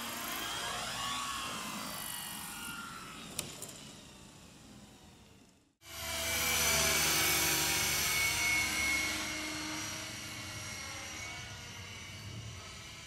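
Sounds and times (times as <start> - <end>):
electric motor high whine: 0.0 - 13.0
helicopter rotor noise: 0.0 - 13.0.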